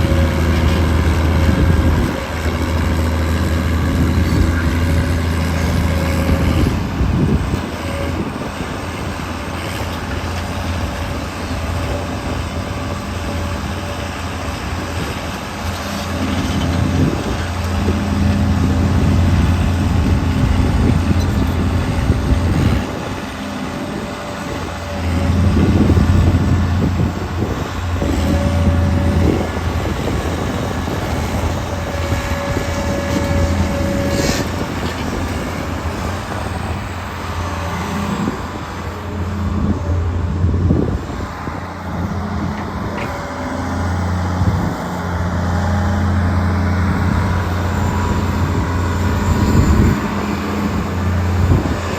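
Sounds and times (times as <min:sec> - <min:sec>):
excavator diesel engine running: 0:00.0 - 0:51.9
steady whine: 0:00.0 - 0:51.9.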